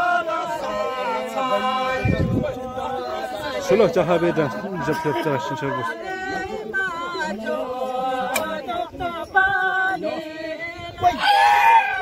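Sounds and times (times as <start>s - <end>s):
men and women singing together: 0.0s - 12.0s.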